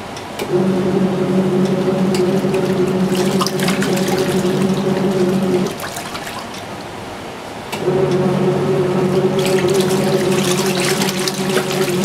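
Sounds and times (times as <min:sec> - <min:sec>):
washing machine motor humming: 0:00.0 - 0:06.9, 0:07.6 - 0:12.0
water sloshing and splashing: 0:00.3 - 0:12.0.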